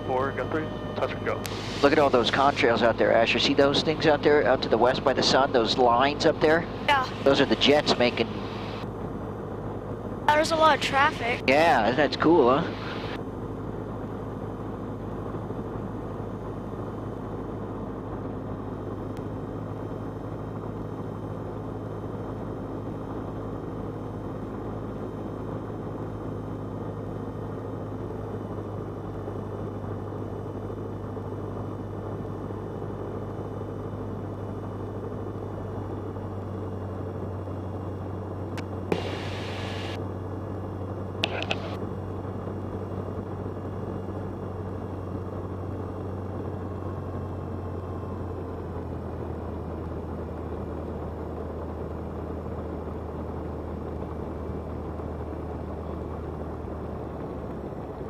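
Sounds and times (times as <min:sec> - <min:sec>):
propeller engine droning: 0:00.0 - 0:58.0.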